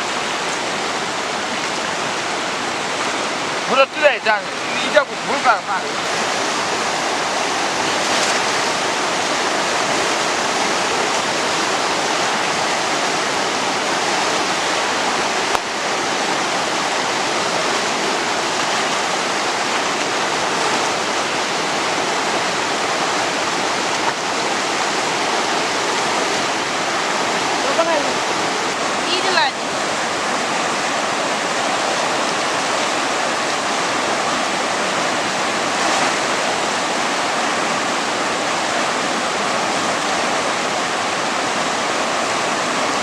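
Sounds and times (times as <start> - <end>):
river rushing: 0.0 - 43.0.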